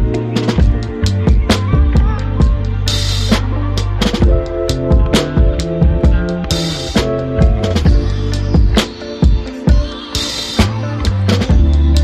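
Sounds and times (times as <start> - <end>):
background music with drum kit: 0.0 - 12.0
sustained bass: 0.0 - 12.0.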